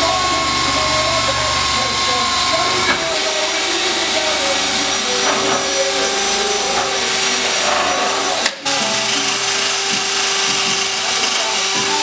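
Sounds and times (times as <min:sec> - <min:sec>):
drill grinding sheet metal: 0:00.0 - 0:12.0
music playing: 0:00.0 - 0:12.0.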